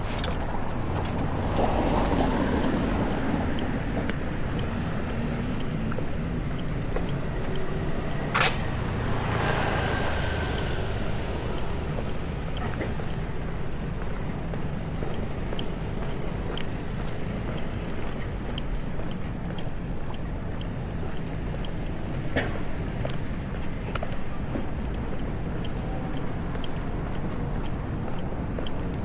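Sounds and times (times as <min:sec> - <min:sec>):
street traffic rumble: 0:00.0 - 0:29.0
vehicles passing: 0:00.0 - 0:29.0.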